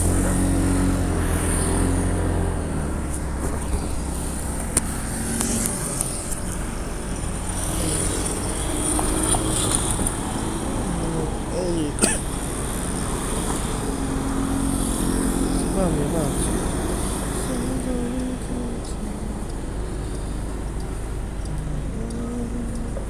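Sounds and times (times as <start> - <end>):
vehicle engine hum and road rumble: 0.0 - 23.0.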